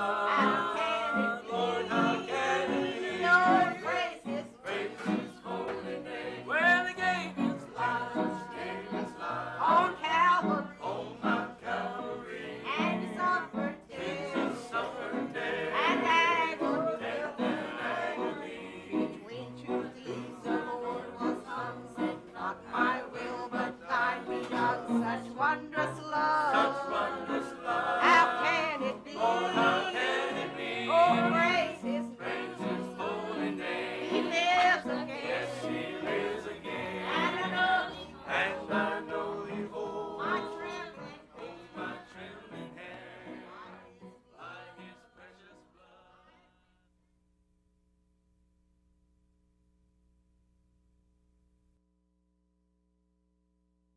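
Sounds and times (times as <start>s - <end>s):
voices singing gospel song: 0.0s - 46.7s.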